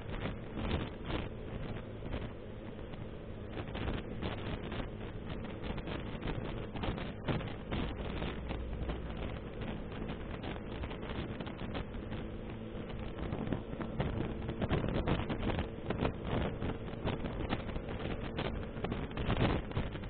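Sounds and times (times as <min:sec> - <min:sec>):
low engine hum: 0:00.0 - 0:20.0
road and wind noise: 0:00.0 - 0:20.0.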